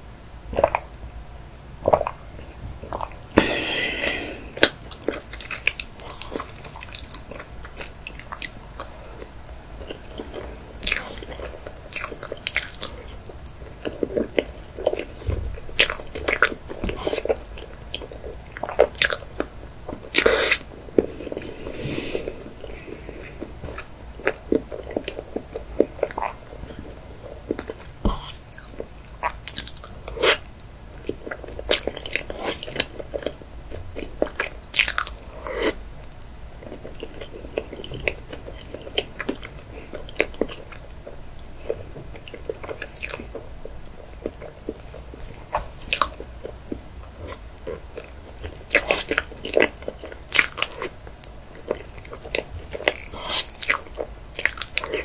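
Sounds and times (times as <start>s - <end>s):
person chewing cake: 0.5s - 0.9s, 1.8s - 55.0s.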